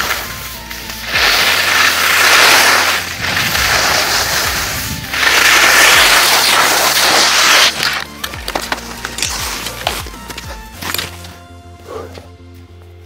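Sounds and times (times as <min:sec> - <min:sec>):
skis scraping over snow: 0:00.0 - 0:10.7.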